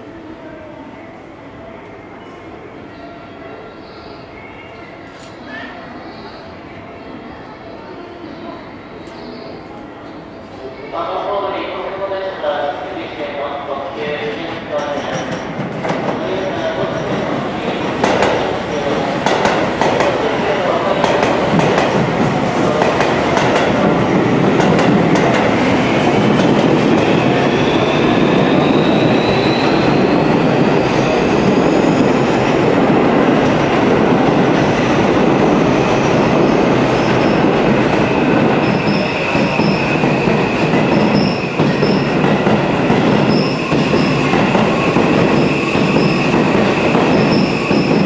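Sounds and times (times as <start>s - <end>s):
train rolling noise: 8.8s - 48.0s.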